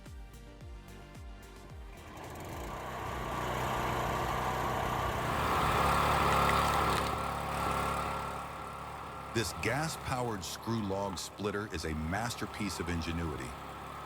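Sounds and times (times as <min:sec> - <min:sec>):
small petrol engine running: 0:01.8 - 0:14.0
machine grinding wood: 0:01.9 - 0:14.0.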